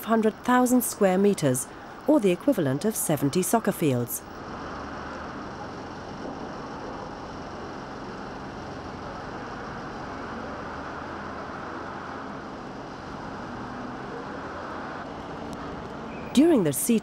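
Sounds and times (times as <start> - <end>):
faint steady hum: 0.0 - 17.0
steady rushing background noise: 0.0 - 17.0.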